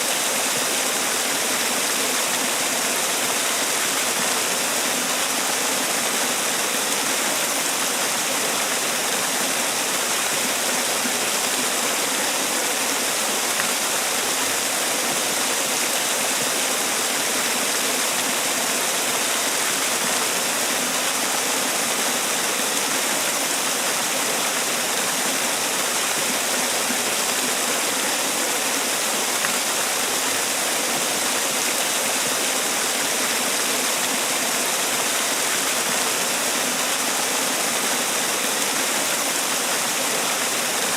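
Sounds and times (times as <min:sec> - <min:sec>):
waterfall splashing: 0:00.0 - 0:40.9.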